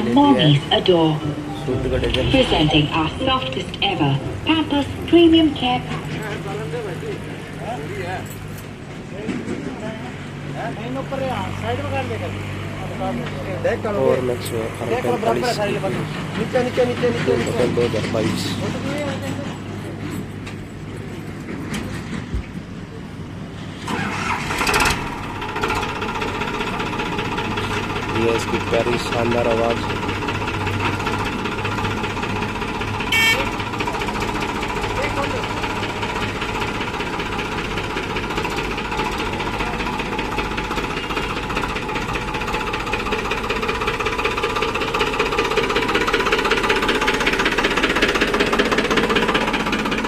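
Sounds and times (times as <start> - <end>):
tractor diesel engine starting: 0.0 - 22.2, 23.6 - 50.0.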